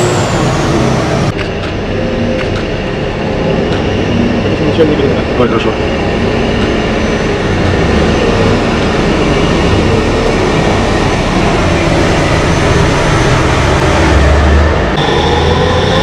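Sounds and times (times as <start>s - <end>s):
truck diesel engines running: 0.0s - 16.0s.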